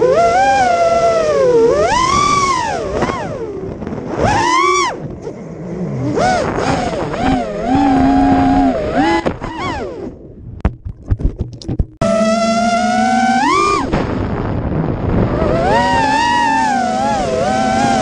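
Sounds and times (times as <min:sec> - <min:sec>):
quadcopter motors whining: 0:00.0 - 0:10.1, 0:12.0 - 0:14.0, 0:15.2 - 0:18.0.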